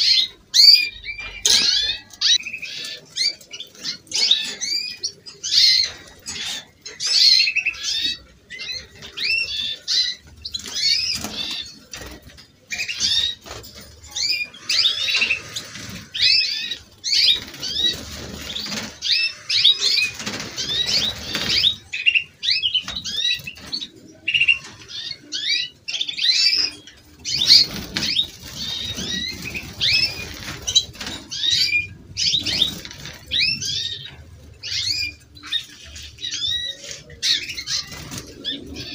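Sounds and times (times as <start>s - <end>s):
canaries singing: 0.0s - 38.9s
rough background noise: 0.0s - 38.9s.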